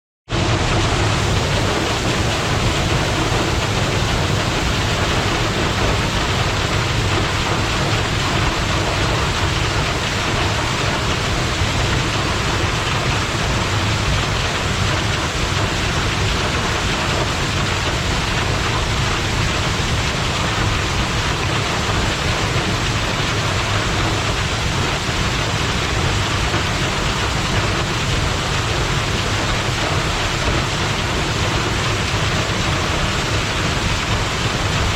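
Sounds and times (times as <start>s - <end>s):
waterfall pouring: 0.3s - 34.9s.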